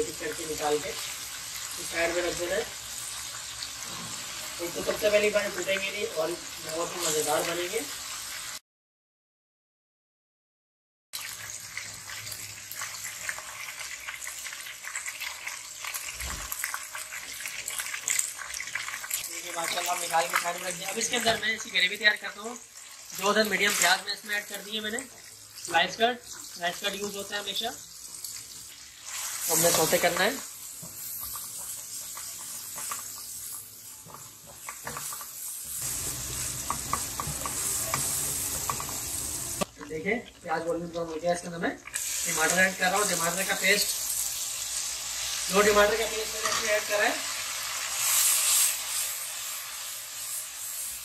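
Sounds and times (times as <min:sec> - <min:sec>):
hot oil sizzling and crackling: 0:00.0 - 0:08.6, 0:11.2 - 0:51.0.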